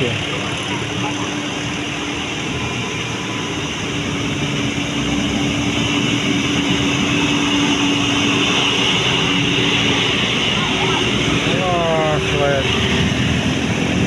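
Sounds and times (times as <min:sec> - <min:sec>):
diesel bus engine labouring: 0:00.0 - 0:14.0.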